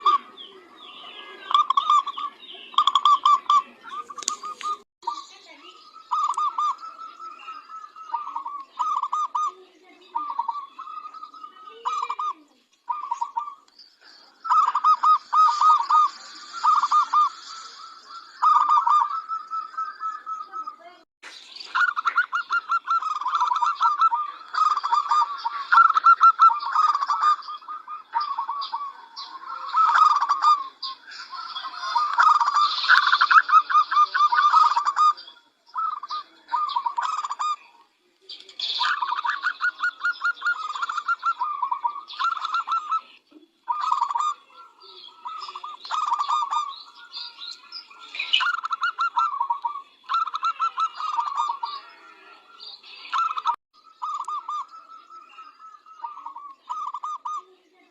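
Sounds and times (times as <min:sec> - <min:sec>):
dove cooing in staccato notes: 0:00.0 - 0:05.2, 0:06.0 - 0:13.7, 0:14.4 - 0:20.8, 0:21.8 - 0:37.7, 0:38.8 - 0:47.2, 0:47.9 - 0:52.4.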